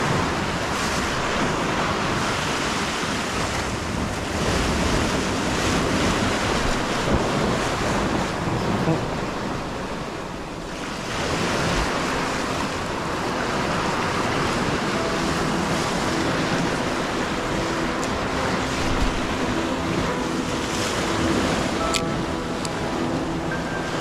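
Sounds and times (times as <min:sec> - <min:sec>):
waves breaking over rocks: 0:00.0 - 0:24.0
wind noise: 0:00.0 - 0:24.0.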